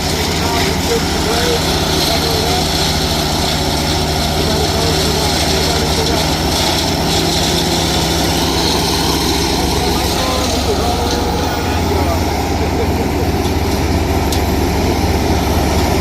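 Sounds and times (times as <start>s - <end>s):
heavy engine running steadily: 0.0s - 16.0s.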